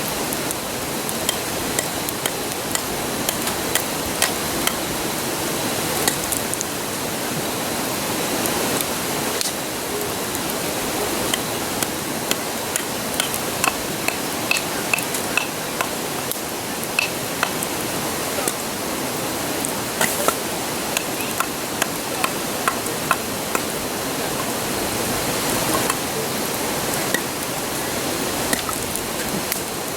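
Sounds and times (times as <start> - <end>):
bonfire crackling and popping: 0.0 - 6.9, 8.4 - 18.8, 19.4 - 24.6, 25.4 - 29.9
river rushing: 0.0 - 29.9.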